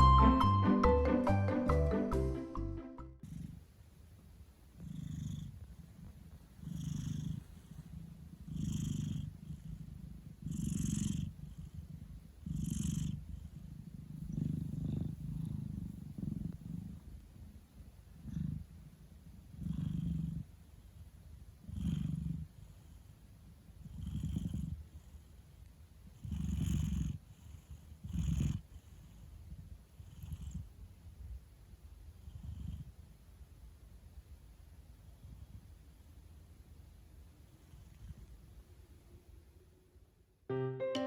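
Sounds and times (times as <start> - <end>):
cat purring: 3.2 - 40.0.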